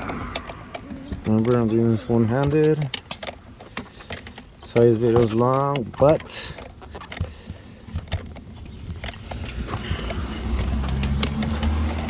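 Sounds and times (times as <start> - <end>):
tools and parts clicking: 0.0 - 12.0
vehicle engine hum: 0.0 - 12.0.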